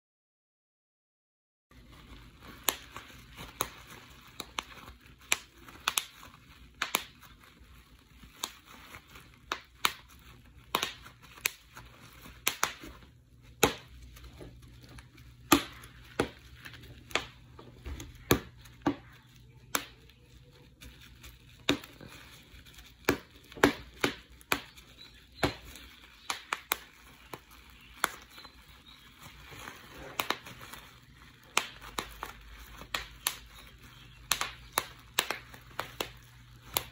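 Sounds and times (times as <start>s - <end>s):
bubble wrap popping: 1.7s - 36.9s
plastic sheet crinkling: 1.7s - 36.9s.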